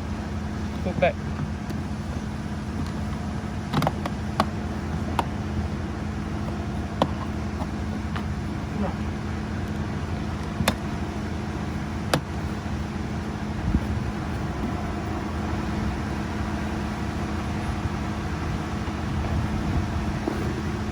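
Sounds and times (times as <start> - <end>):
low mechanical hum: 0.0 - 20.9.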